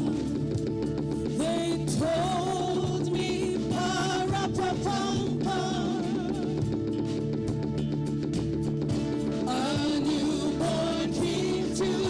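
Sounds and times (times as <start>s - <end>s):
band accompaniment: 0.0s - 12.0s.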